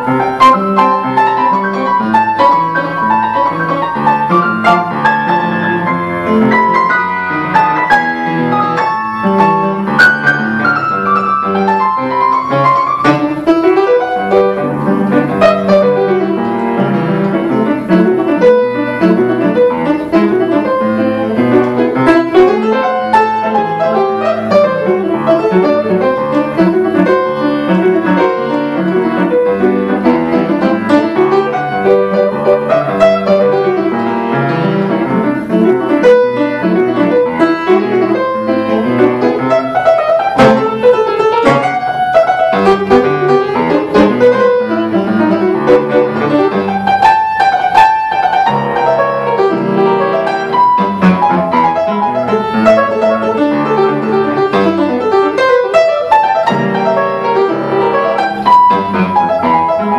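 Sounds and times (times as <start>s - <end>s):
solo piano: 0.0s - 59.9s.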